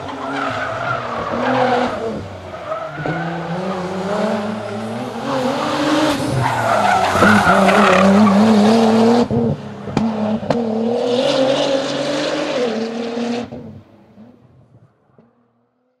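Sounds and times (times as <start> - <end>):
car engine passing at speed: 0.0 - 16.0.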